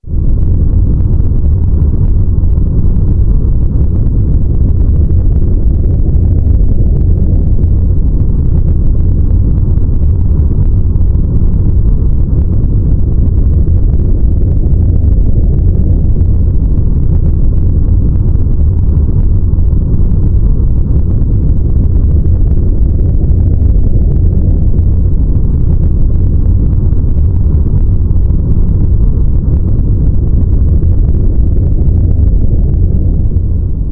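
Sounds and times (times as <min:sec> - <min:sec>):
deep steady rumble: 0:00.0 - 0:33.9.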